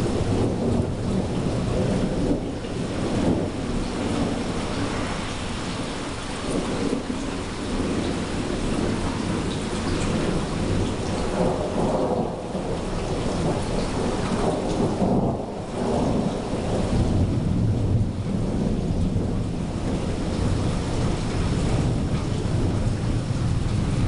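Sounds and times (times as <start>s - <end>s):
steady rain falling: 0.0s - 24.0s
thunder rumbling: 0.0s - 24.0s.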